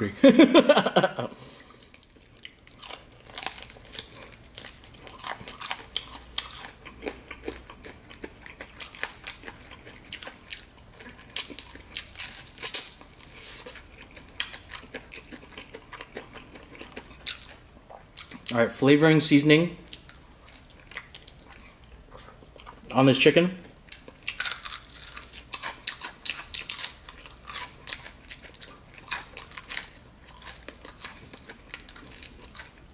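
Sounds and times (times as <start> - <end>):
crunchy chicken being chewed: 1.5 - 18.6, 19.9 - 22.9, 23.6 - 32.9.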